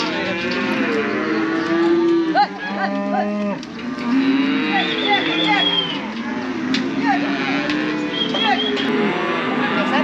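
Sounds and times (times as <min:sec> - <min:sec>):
cattle mooing: 0:00.0 - 0:10.0.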